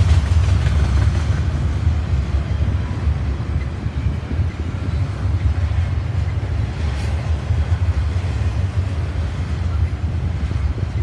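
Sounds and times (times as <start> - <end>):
train cars rumbling past: 0.0 - 11.0.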